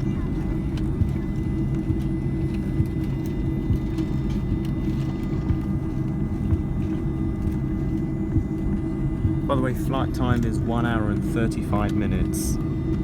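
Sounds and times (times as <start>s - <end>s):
aircraft cabin low rumble: 0.0s - 13.0s
jet engine high whine: 0.0s - 13.0s.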